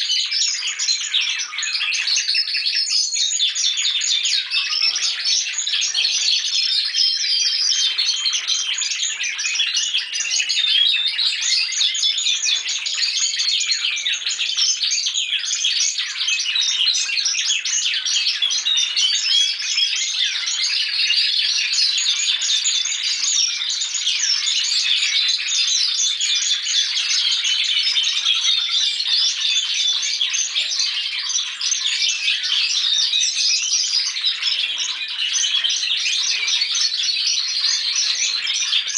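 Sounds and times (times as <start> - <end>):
canaries singing: 0.0 - 38.9.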